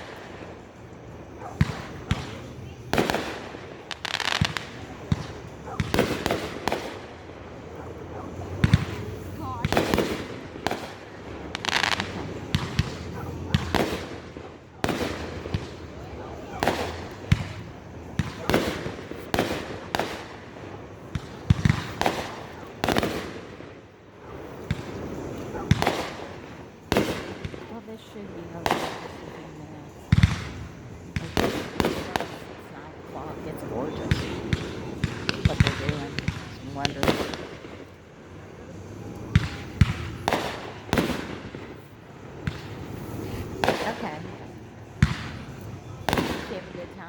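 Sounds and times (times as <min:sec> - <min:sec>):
fireworks bangs echoing: 0:00.0 - 0:47.0.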